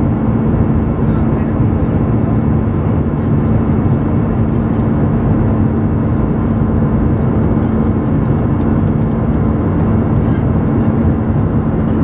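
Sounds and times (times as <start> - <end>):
airplane cabin engine rumble: 0.0 - 12.0
constant low hum: 0.0 - 12.0.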